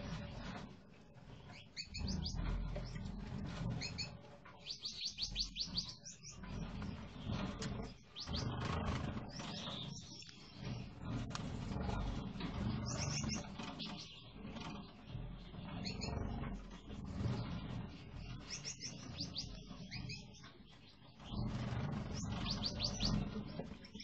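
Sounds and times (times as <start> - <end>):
finches chirping: 1.4 - 3.1, 3.7 - 24.0.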